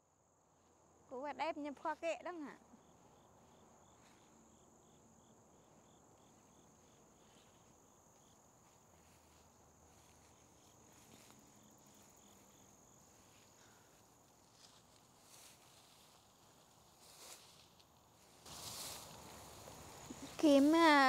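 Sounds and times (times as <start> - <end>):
crickets trilling and chirping: 0.6 - 21.0.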